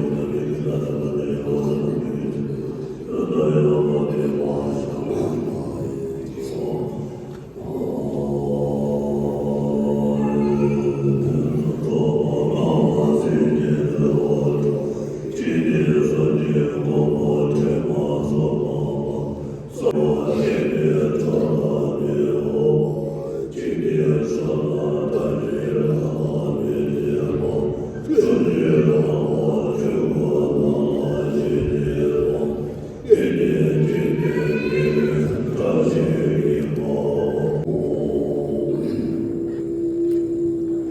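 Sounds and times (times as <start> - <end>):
monks chanting in low voices: 0.0 - 40.9.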